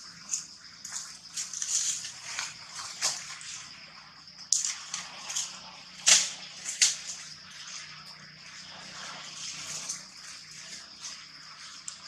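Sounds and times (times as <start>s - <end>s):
leaves and branches rustling: 0.0s - 3.9s, 4.5s - 12.0s
high-pitched background whine: 0.0s - 12.0s.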